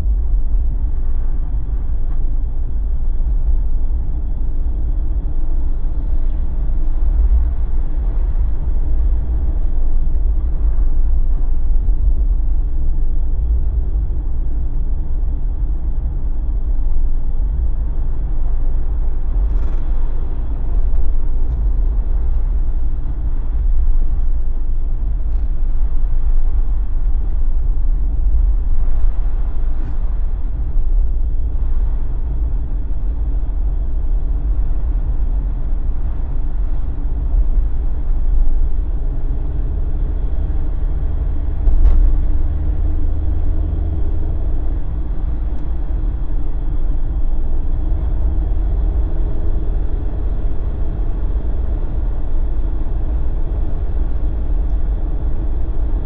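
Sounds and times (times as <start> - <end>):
car engine rumble: 0.0 - 56.0
tyre road noise: 0.0 - 56.0.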